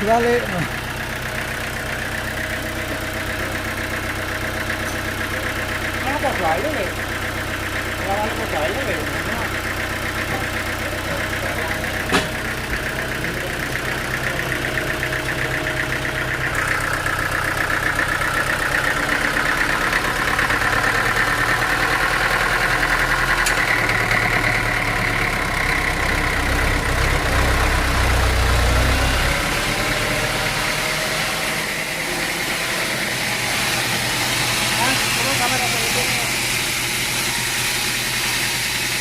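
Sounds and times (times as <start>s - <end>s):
sawmill machinery running: 0.0s - 39.0s.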